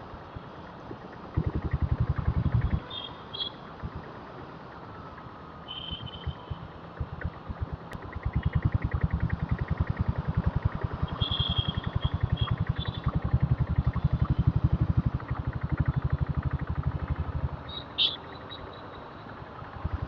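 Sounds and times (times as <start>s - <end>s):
motorcycle engine running at low revs: 0.8s - 20.0s.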